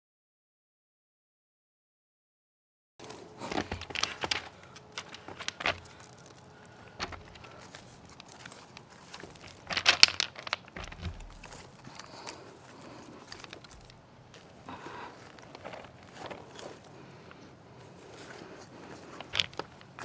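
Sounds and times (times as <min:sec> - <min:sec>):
plants and soil rustling: 0:03.0 - 0:20.0.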